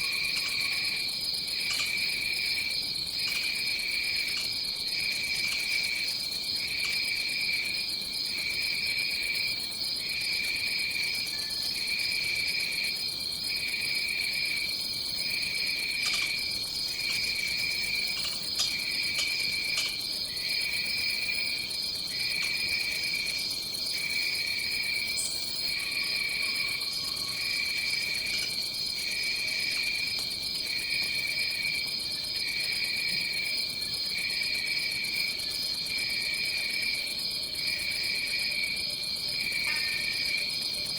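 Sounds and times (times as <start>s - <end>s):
high steady insect trill: 0.0s - 40.9s.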